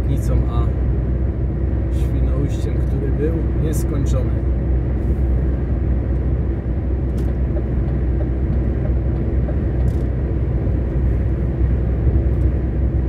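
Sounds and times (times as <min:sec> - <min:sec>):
diesel engine drone: 0:00.0 - 0:13.0
tyre road noise: 0:00.0 - 0:13.0.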